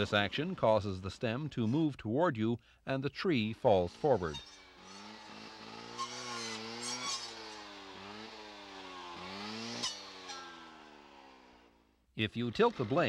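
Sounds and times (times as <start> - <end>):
brush saw engine running: 0.0 - 2.1, 3.2 - 13.0.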